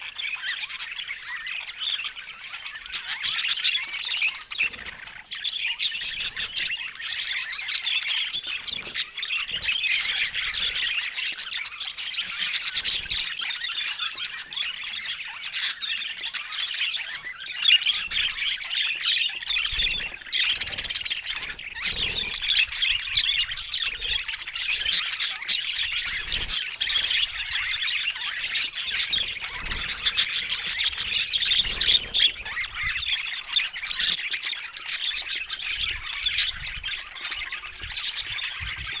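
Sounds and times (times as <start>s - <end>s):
budgerigars chattering: 0.0s - 39.0s.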